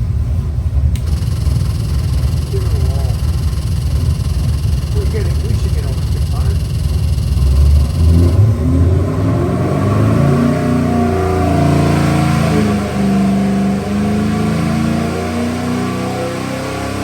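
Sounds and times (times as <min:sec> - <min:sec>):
engine running hard on dyno: 0:00.0 - 0:17.0.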